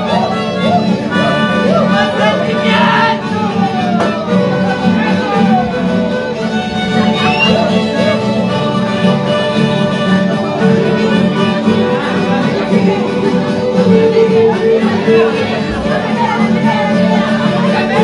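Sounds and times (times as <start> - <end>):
band of violins and guitars: 0.0 - 18.0.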